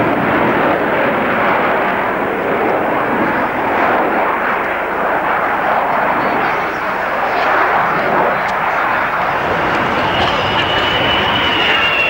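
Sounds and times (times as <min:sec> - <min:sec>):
loud jet noise overhead: 0:00.0 - 0:12.0.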